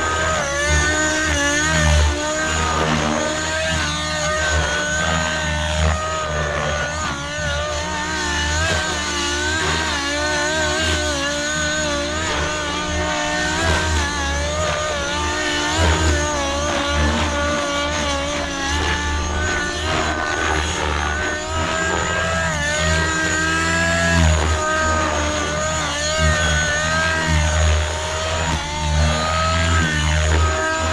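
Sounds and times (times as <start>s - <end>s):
model helicopter engine whine: 0.0s - 30.9s.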